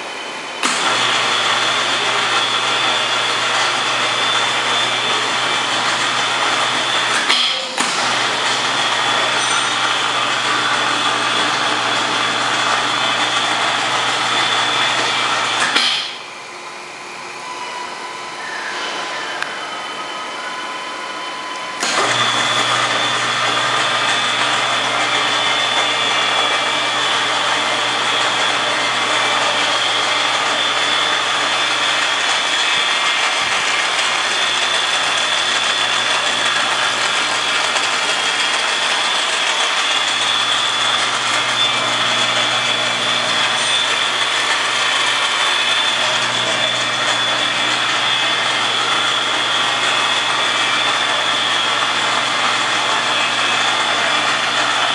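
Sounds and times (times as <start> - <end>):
electric motor whining: 0.6 - 15.8, 17.4 - 54.9.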